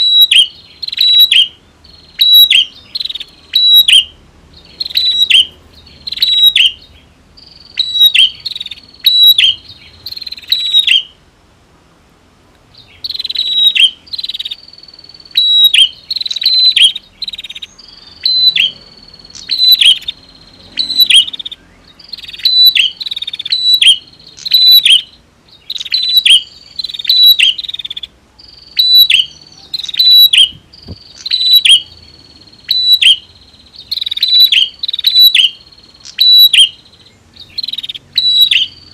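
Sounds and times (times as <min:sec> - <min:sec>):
birds chirping and singing: 0:00.0 - 0:11.2, 0:12.7 - 0:38.9.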